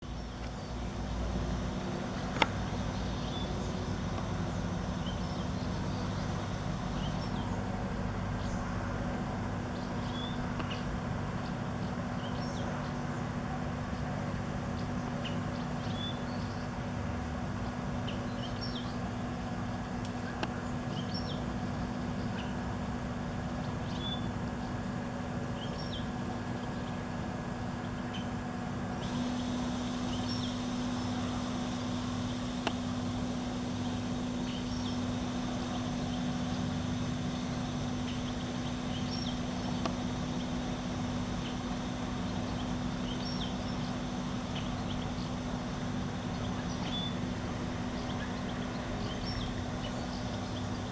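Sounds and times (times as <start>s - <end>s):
low mechanical hum: 0.0s - 50.9s
small birds chirping: 0.1s - 13.0s, 17.5s - 22.7s, 27.6s - 50.9s.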